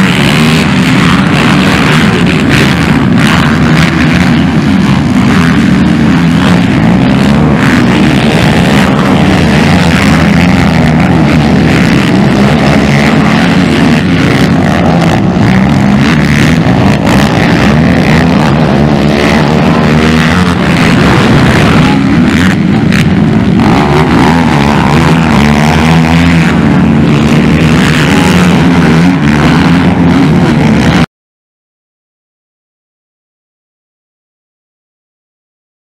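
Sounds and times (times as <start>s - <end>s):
quad engines revving: 0.0s - 31.1s.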